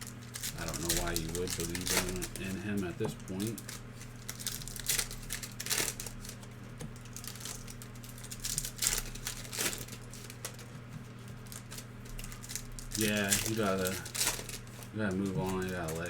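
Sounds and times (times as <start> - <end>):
trading cards and wrappers crinkling: 0.0 - 16.0.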